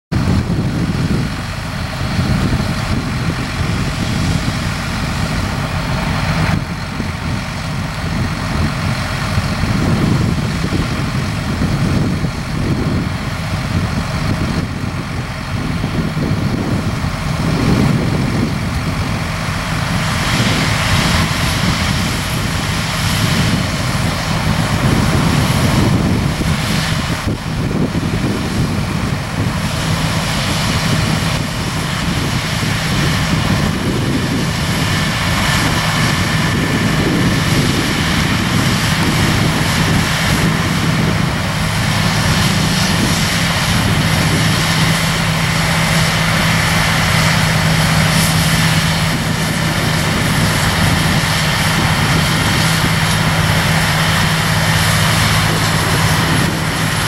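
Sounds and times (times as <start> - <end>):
engine drone: 0.0 - 57.0
machinery rumble: 0.1 - 57.0
broad hiss: 0.8 - 57.0.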